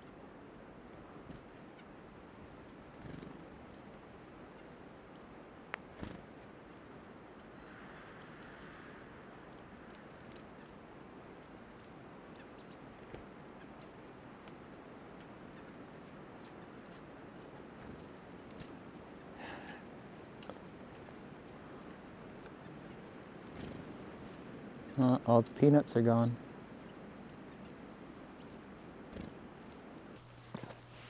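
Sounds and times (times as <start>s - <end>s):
faint outdoor background noise: 0.0s - 31.0s
songbirds chirping: 0.0s - 31.0s.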